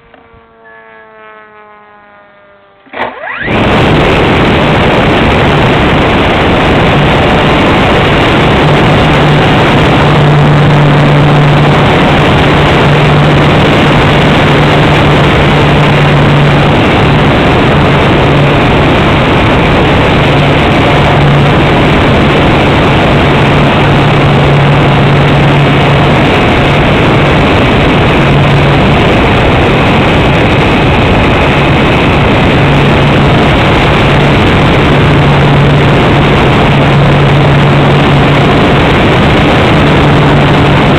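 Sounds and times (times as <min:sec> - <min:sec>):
propeller humming: 0:00.0 - 0:40.9
wind rushing over microphone: 0:00.0 - 0:40.9.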